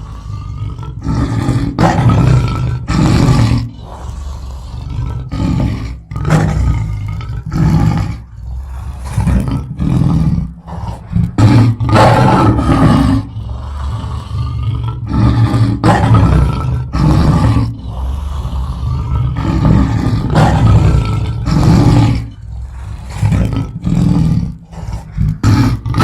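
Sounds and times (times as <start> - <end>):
lion roaring: 0.0 - 26.0.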